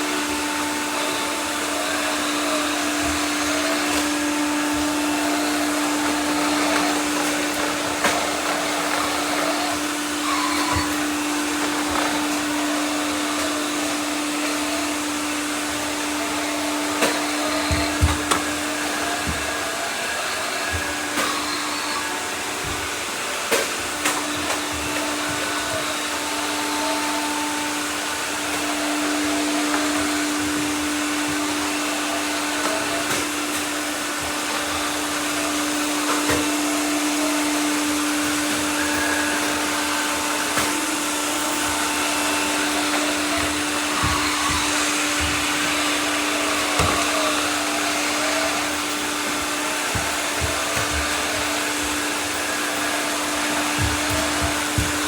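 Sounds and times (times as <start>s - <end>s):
robot vacuum cleaners whirring: 0.0s - 55.0s.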